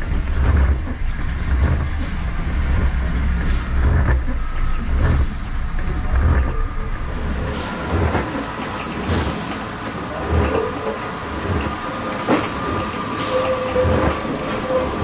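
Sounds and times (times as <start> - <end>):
train running noise with whine: 0.0 - 15.0.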